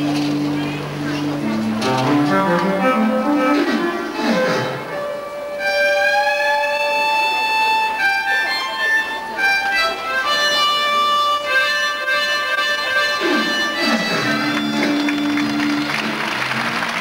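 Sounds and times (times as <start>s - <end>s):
slow instrumental melody: 0.0s - 17.0s.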